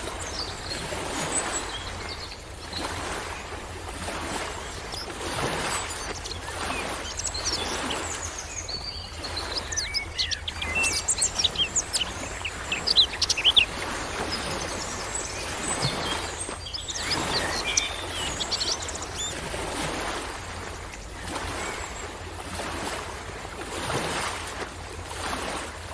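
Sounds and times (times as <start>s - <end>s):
birds chirping: 0.0s - 22.3s
waves washing in: 0.0s - 25.9s.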